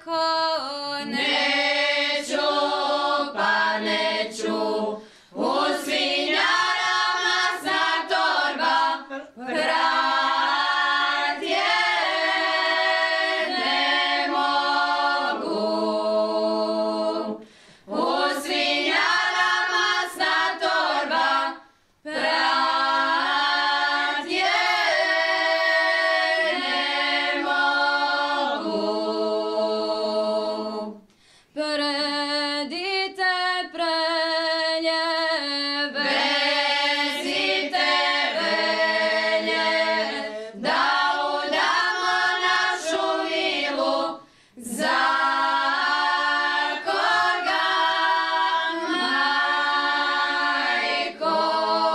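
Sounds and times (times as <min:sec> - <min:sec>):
women singing a cappella: 0:00.0 - 0:51.9.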